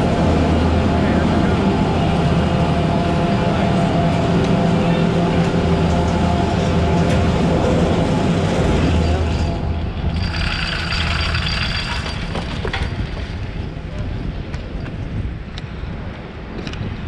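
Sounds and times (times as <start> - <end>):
chairlift machinery humming: 0.0 - 13.8.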